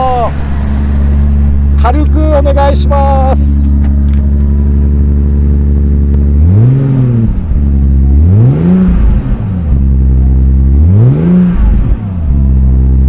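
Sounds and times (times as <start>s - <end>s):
car exhaust idling and revving: 0.0s - 13.0s.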